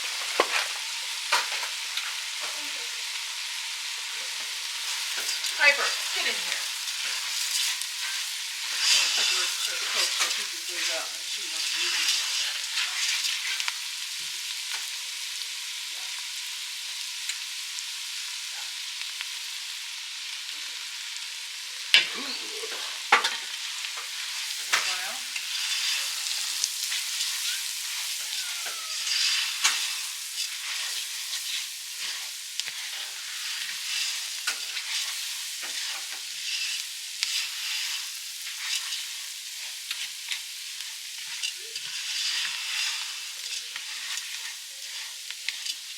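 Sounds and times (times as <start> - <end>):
utensil stirring and knocking pan: 0.0 - 2.7, 4.0 - 14.9, 21.9 - 45.9
food sizzling in a pan: 0.0 - 45.9.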